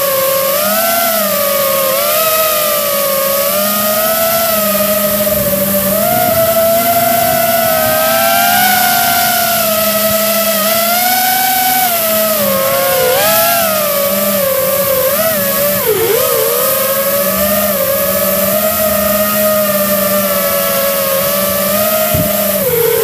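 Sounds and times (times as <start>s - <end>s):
drone motors whining: 0.0s - 23.0s
wind hiss: 0.0s - 23.0s.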